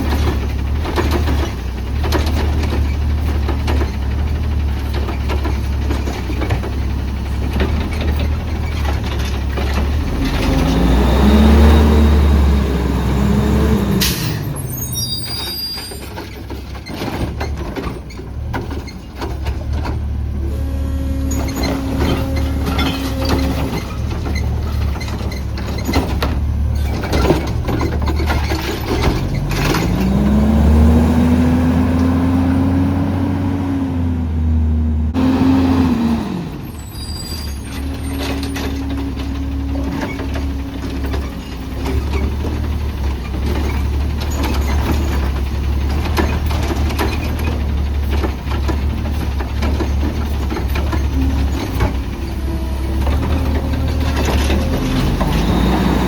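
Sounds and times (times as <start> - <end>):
clanks and rattles: 0.0 - 11.0, 14.0 - 30.6, 36.6 - 56.0
garbage truck engine revving: 0.0 - 56.0.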